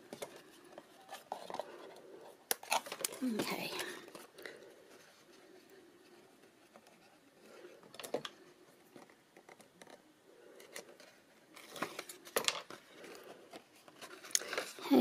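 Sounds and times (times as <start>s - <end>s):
small clicks and crinkles: 0.0s - 15.0s.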